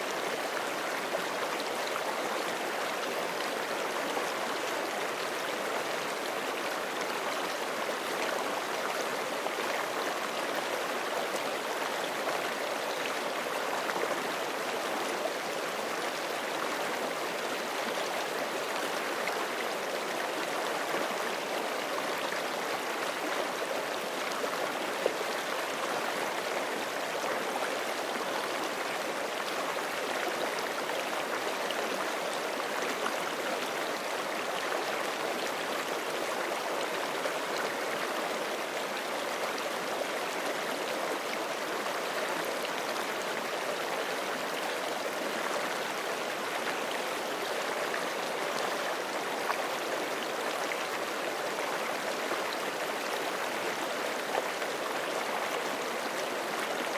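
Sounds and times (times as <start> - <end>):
creek flowing over rocks: 0.0 - 56.9.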